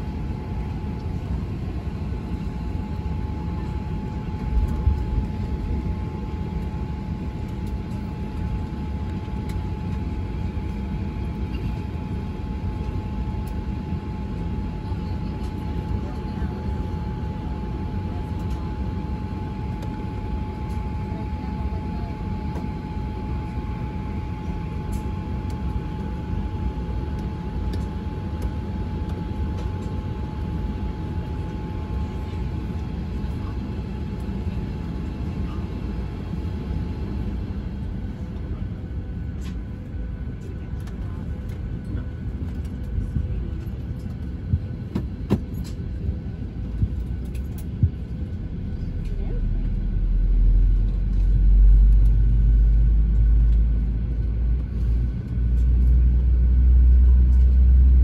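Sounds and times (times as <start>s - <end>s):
aircraft cabin low rumble: 0.0s - 58.0s.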